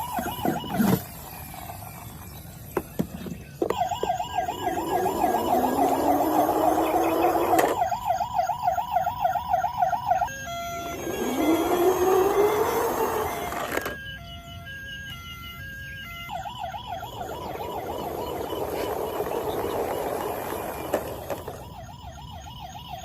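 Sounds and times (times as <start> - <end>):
rising electronic whine: 0.0 - 14.0, 16.3 - 22.0
electronic toy siren wailing: 0.0 - 23.0.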